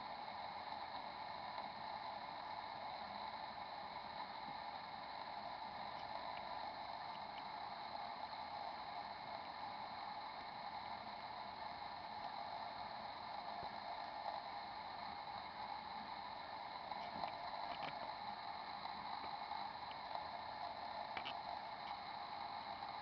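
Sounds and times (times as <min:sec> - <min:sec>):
faint ticks: 0:00.0 - 0:23.0
room tone hiss: 0:00.0 - 0:23.0.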